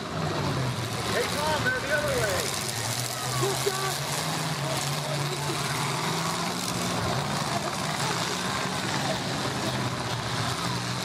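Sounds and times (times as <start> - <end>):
car engines droning: 0.0 - 11.0.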